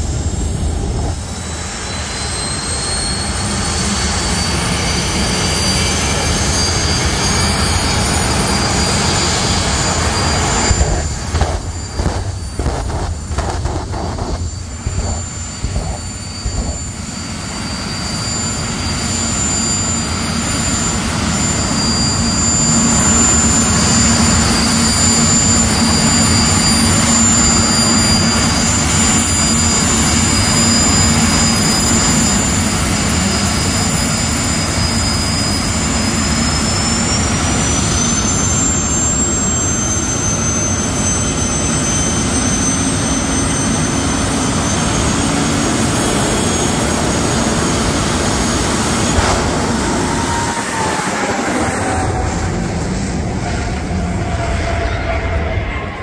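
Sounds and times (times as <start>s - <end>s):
high whistling whines: 0.0s - 56.0s
jet turbine engines rumbling: 0.0s - 56.0s.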